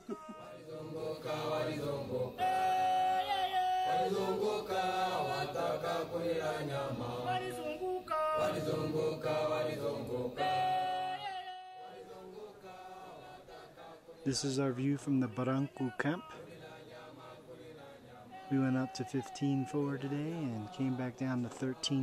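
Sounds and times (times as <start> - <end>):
choir singing in harmony: 0.0 - 22.0.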